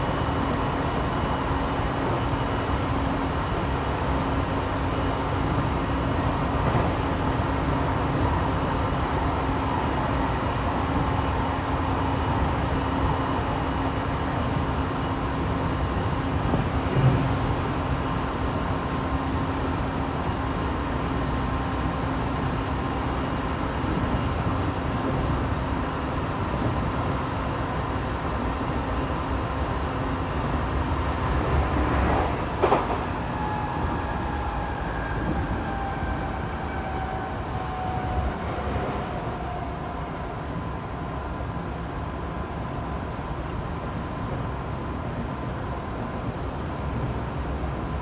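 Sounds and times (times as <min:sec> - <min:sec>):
train wheel and running noise: 0:00.0 - 0:48.0.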